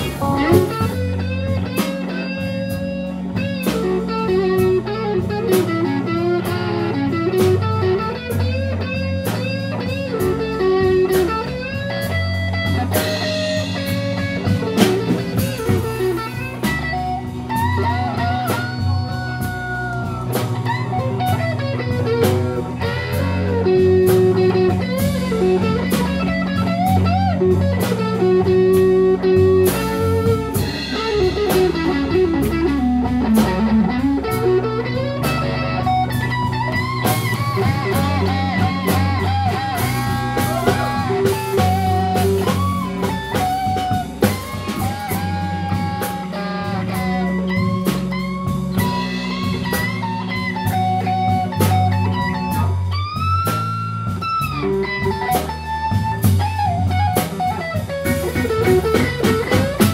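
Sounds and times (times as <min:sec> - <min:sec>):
drum kit: 0:00.0 - 0:59.9
electric bass: 0:00.0 - 0:59.9
electric guitar solo: 0:00.0 - 0:59.9.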